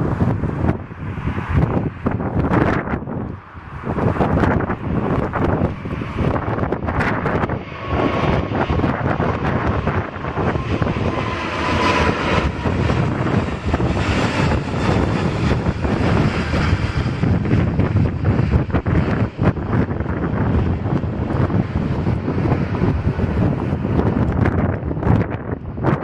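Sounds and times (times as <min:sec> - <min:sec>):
faint jet whine: 0:00.0 - 0:25.8
jet engines rumbling: 0:00.0 - 0:26.0
wind buffeting microphone: 0:00.0 - 0:26.0.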